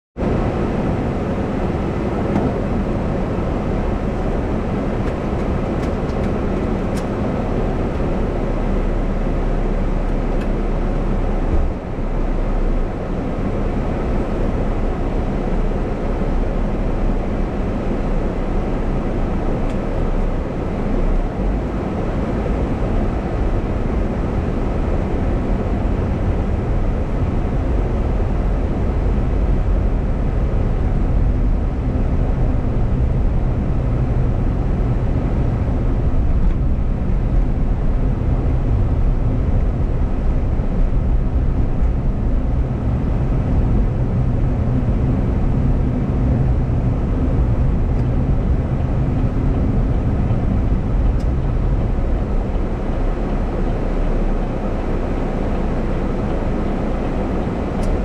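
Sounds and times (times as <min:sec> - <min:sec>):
car engine and road noise: 0:00.2 - 0:58.0.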